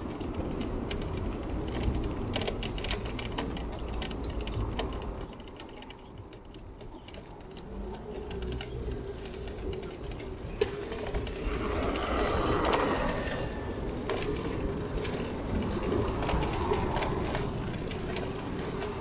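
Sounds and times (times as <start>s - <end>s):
bicycle clicks and rattles: 0.0s - 19.0s
city street noise: 0.0s - 19.0s.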